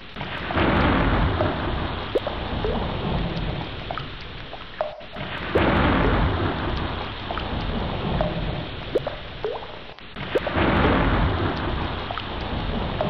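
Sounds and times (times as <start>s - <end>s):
heavy rain falling: 0.1s - 13.0s
thunder rumbling: 0.4s - 4.2s, 4.8s - 13.0s
water drop plinks: 1.4s - 13.0s.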